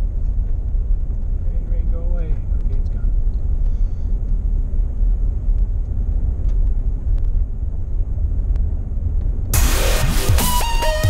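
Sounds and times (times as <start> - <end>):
vehicle driving on dirt road: 0.0 - 9.6.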